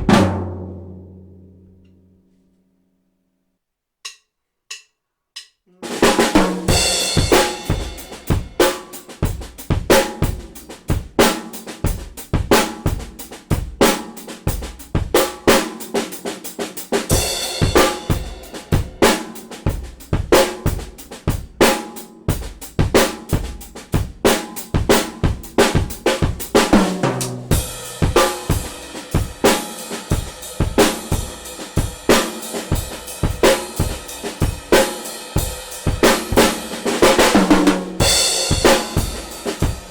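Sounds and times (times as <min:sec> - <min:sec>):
drum kit groove: 0:00.0 - 0:01.4, 0:04.1 - 0:39.9.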